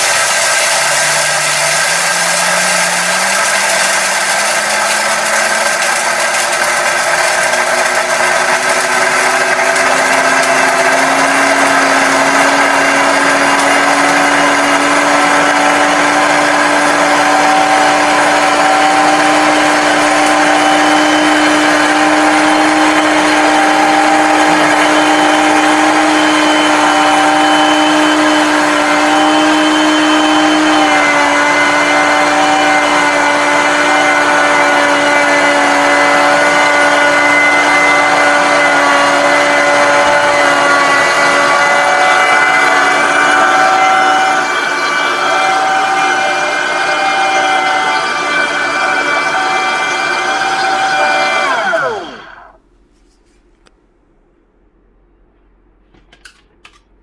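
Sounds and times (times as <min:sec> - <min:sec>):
blender grinding beans: 0:00.0 - 0:52.6.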